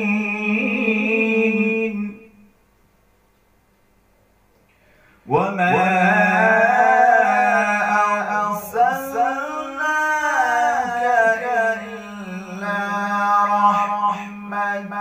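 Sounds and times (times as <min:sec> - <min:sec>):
man reciting melodically: 0:00.0 - 0:02.4, 0:05.2 - 0:15.0.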